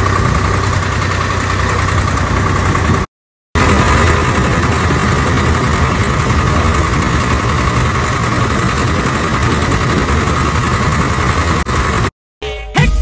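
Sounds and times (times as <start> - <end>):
tractor diesel engine running: 0.0 - 12.1.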